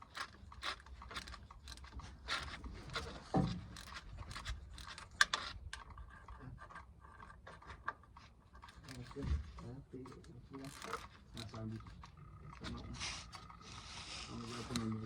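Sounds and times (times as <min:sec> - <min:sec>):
tools scraping and clicking on metal: 0:00.0 - 0:15.0.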